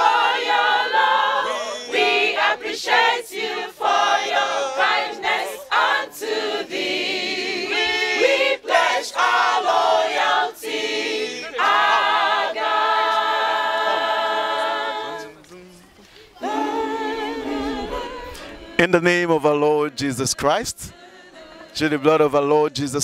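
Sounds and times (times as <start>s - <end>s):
mixed choir singing unaccompanied: 0.0s - 23.0s.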